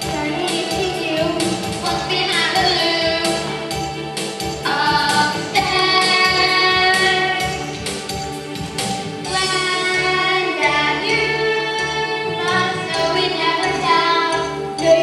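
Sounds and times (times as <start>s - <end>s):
children's choir singing: 0.0s - 3.7s, 4.6s - 7.9s, 9.3s - 15.0s
musical accompaniment: 0.0s - 15.0s.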